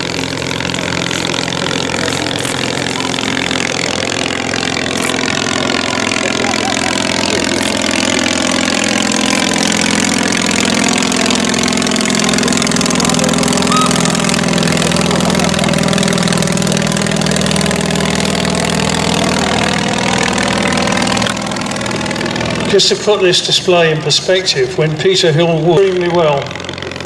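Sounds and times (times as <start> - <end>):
aircraft piston engine running: 0.0 - 27.0.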